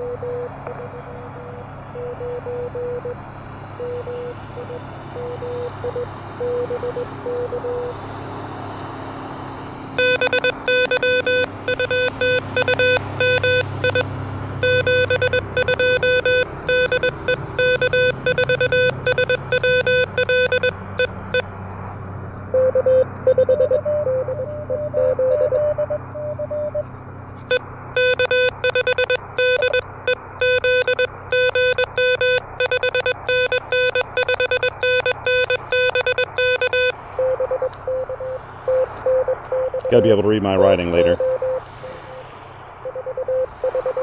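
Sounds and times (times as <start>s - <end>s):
morse code tones: 0.0s - 3.2s, 3.8s - 7.9s, 10.0s - 21.4s, 22.5s - 26.9s, 27.5s - 44.0s.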